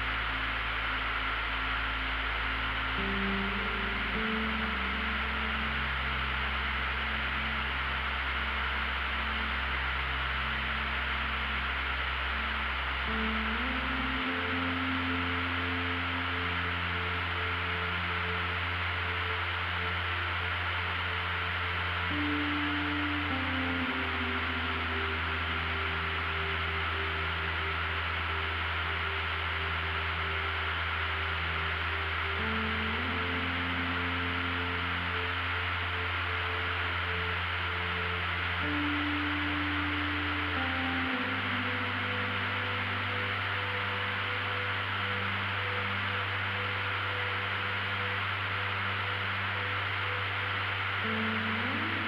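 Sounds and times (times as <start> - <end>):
ambient music chord: 0.0 - 52.0.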